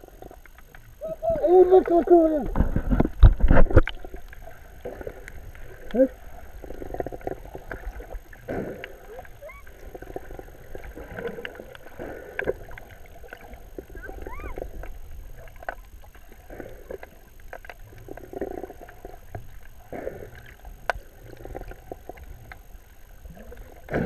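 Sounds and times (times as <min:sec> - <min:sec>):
underwater sloshing and bubbling: 0:00.0 - 0:24.0.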